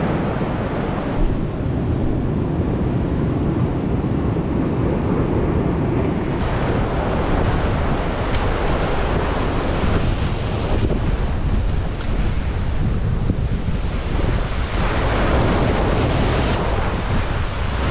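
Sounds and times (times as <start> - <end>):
surf washing against rocks: 0.0 - 17.9
wind noise on microphone: 0.0 - 17.9.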